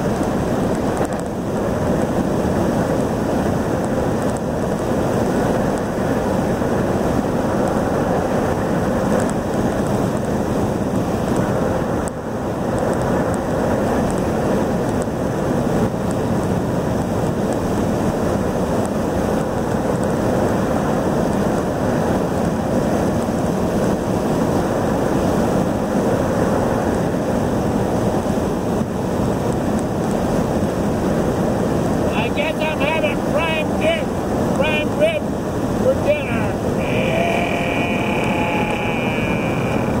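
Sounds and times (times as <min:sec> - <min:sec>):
road and wind noise in car: 0:00.0 - 0:40.0.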